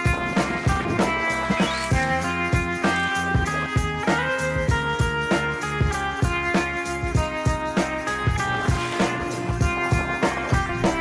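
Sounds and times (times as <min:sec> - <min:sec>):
guitar over a steady beat: 0:00.0 - 0:11.0.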